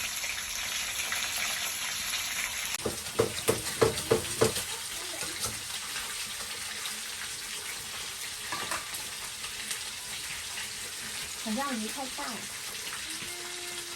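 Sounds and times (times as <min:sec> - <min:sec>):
water running from tap: 0:00.0 - 0:13.9.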